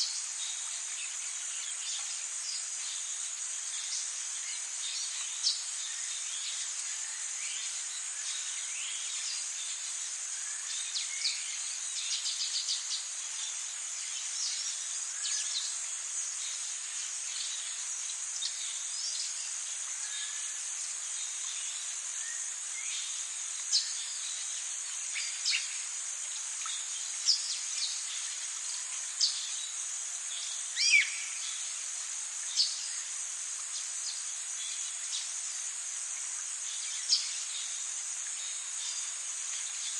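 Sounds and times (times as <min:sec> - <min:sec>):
insects buzzing and trilling: 0:00.0 - 0:39.9.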